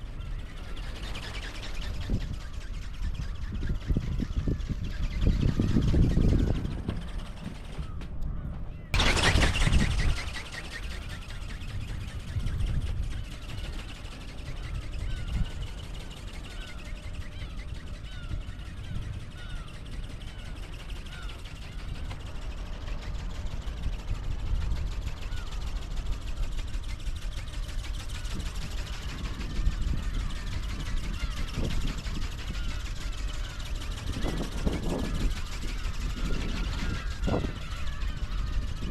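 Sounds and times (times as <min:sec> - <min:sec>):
bird calling: 0:00.0 - 0:38.9
wind buffeting microphone: 0:00.0 - 0:38.9.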